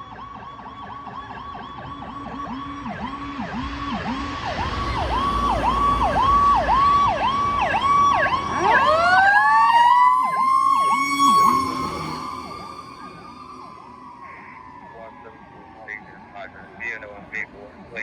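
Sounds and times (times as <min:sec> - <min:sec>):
siren wail: 0:00.0 - 0:17.8
siren electronic yelp: 0:00.0 - 0:18.0.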